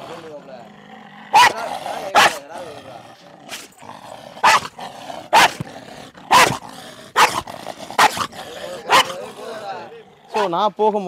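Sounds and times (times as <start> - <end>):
dog barking aggressively: 0.0 - 10.6
dog snarling: 0.0 - 10.6.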